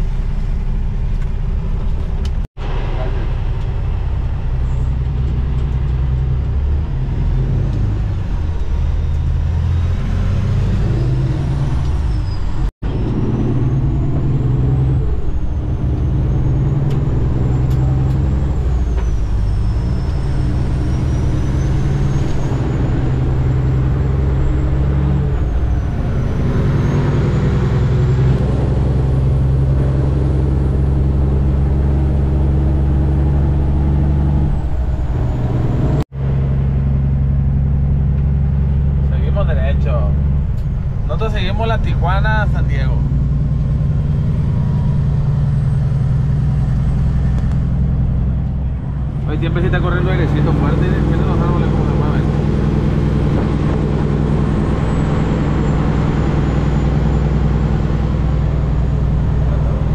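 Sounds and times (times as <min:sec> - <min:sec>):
diesel engine drone: 0:00.0 - 0:59.9.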